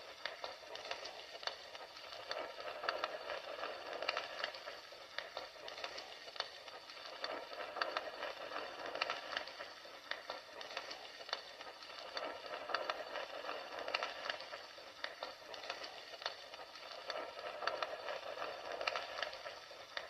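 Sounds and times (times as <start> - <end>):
fire crackling and popping: 0.0 - 20.0
low hiss of fire: 0.0 - 20.0.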